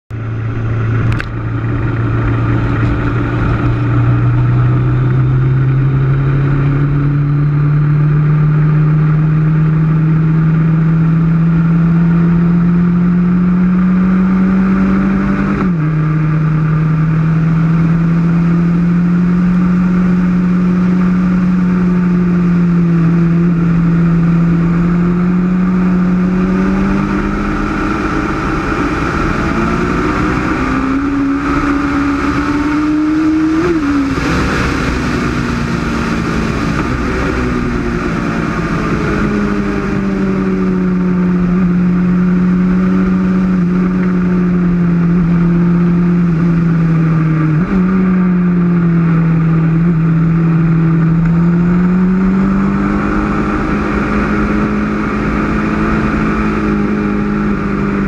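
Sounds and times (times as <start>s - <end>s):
motorcycle engine accelerating: 0.1s - 58.0s
wind and road rush: 0.1s - 58.0s.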